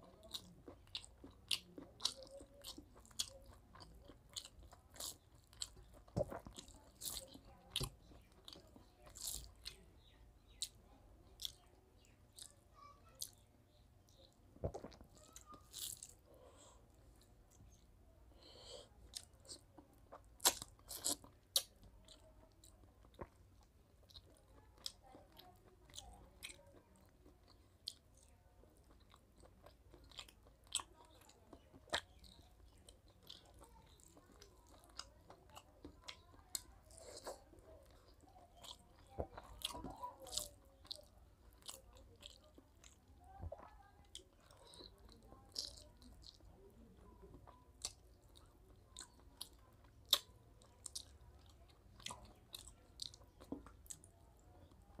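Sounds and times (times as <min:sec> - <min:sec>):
man chewing with wet smacks: 0:00.0 - 0:12.6, 0:14.1 - 0:17.9, 0:18.9 - 0:55.0.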